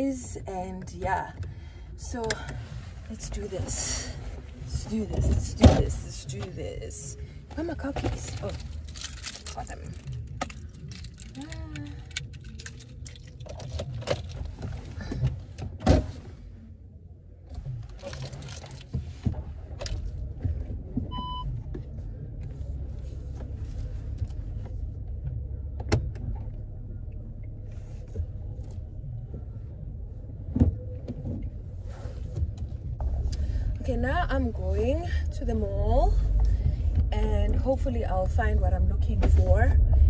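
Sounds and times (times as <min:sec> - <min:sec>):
low steady rumble: 0:00.0 - 0:40.0.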